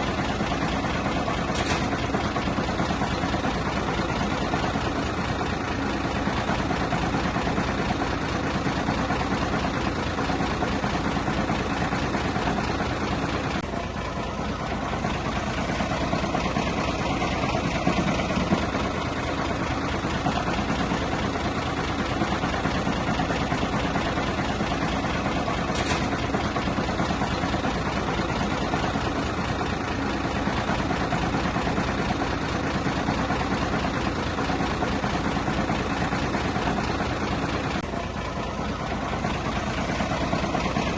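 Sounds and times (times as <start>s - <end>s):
diesel engine throbbing: 0.0s - 40.9s.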